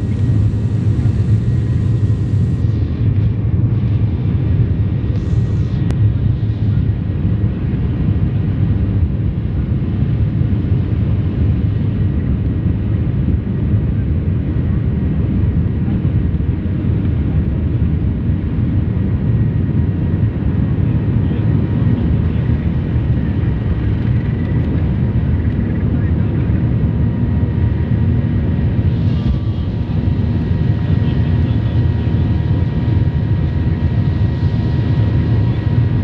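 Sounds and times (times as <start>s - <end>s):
jet engines deep rumble: 0.0s - 36.0s.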